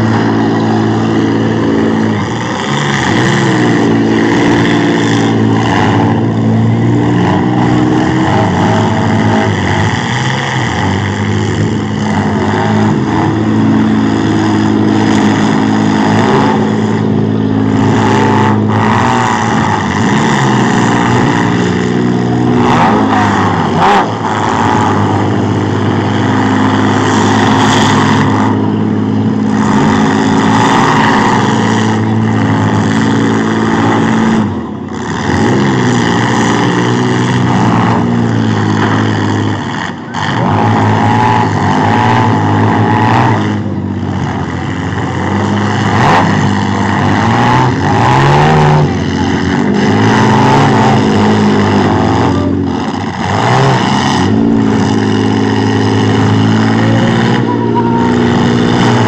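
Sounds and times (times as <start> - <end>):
trucks engines revving: 0.0 - 59.0.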